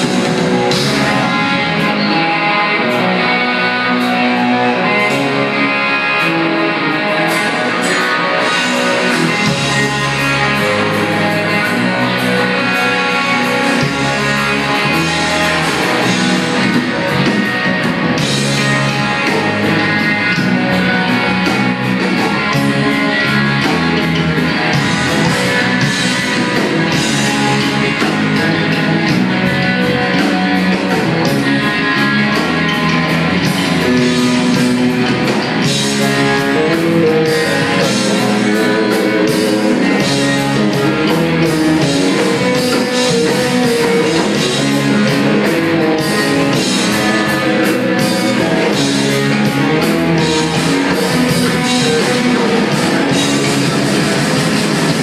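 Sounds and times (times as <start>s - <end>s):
bass guitar: 0.0s - 55.0s
drum kit beat: 0.0s - 55.0s
electric guitars: 0.0s - 55.0s.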